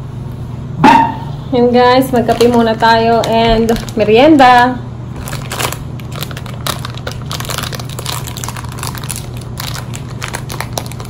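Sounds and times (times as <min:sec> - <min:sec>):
plastic wrapper crinkling: 0:02.1 - 0:11.0.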